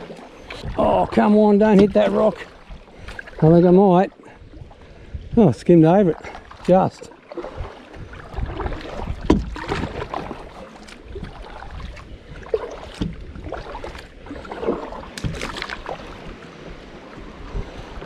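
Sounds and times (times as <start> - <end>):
paddle strokes splashing: 0.0 - 18.0
water washing along kayak: 0.0 - 18.0.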